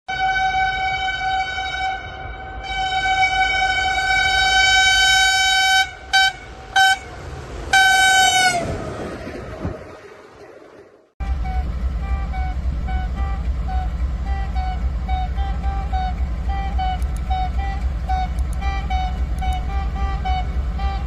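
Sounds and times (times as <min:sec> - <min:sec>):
locomotive horn blasts: 0:00.1 - 0:08.8, 0:11.2 - 0:21.0.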